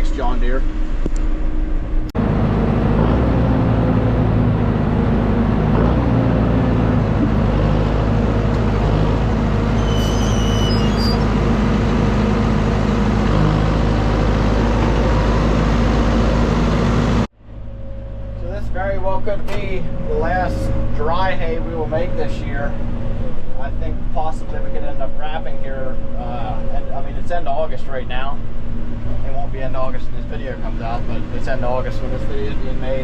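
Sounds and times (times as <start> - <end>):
tractor engine droning: 0.0 - 33.0.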